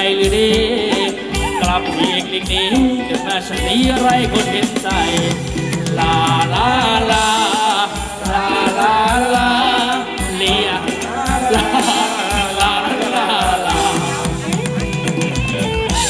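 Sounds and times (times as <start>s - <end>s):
dance band music over loudspeakers: 0.0s - 16.0s
person singing: 0.0s - 16.0s
steady drum beat: 0.0s - 16.0s.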